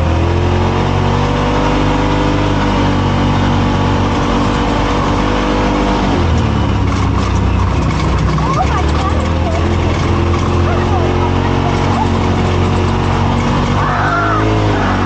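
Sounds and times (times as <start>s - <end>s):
engine running: 0.0s - 15.0s
trail noise: 1.0s - 15.0s.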